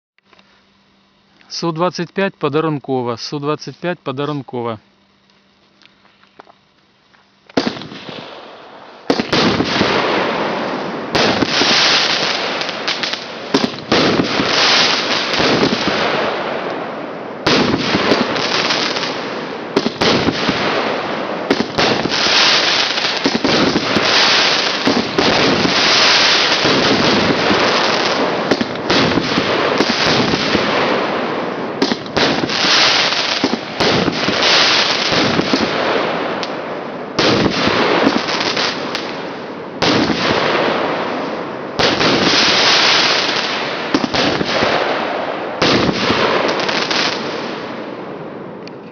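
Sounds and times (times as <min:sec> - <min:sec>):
fireworks hissing and cracking: 0:06.1 - 0:16.4, 0:17.4 - 0:36.6, 0:37.2 - 0:40.6, 0:41.2 - 0:47.6.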